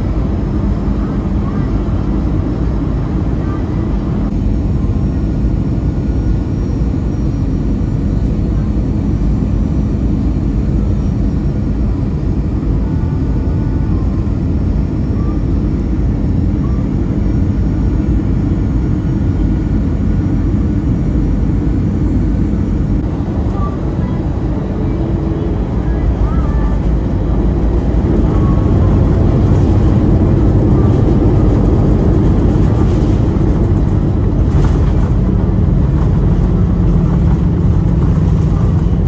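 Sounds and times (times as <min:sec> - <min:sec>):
jet engine and airflow rumble: 0:00.0 - 0:39.0.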